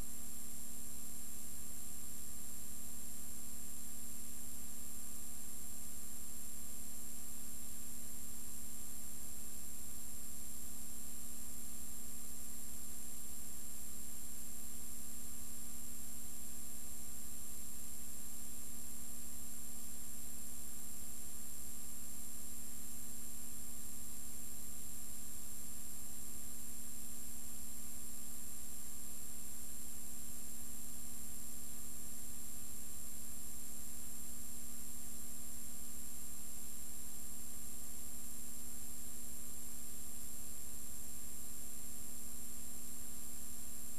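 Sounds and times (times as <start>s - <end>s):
low electrical hum: 0.0s - 43.9s.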